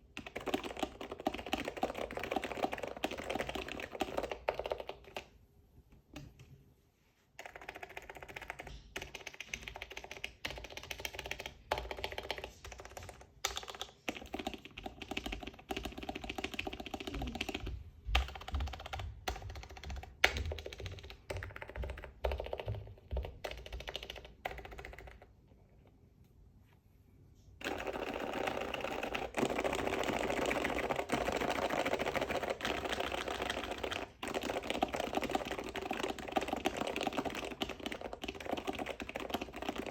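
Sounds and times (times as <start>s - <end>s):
keyboard typing: 0.0s - 5.4s, 7.4s - 25.7s, 27.6s - 39.9s.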